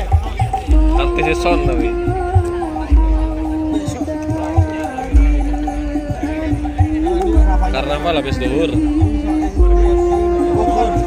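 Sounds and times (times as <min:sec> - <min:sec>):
loud music over sound system: 0:00.0 - 0:11.0.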